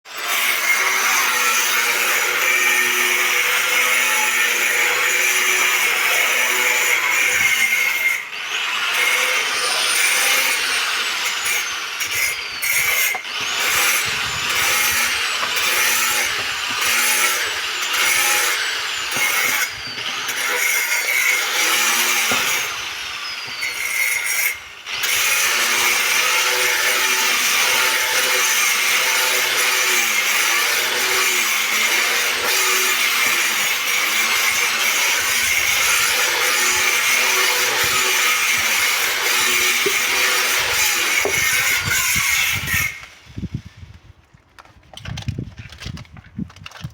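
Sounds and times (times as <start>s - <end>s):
power tool grinding stone: 0.1s - 43.6s.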